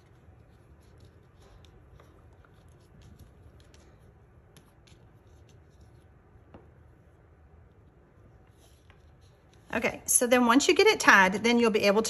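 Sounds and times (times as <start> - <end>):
faint rustling of card: 0.0 - 9.8.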